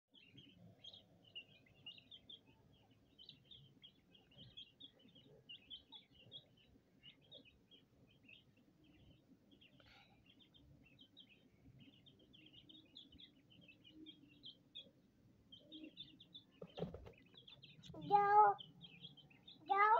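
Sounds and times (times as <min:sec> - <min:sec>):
chicks cheeping: 0:00.1 - 0:19.9.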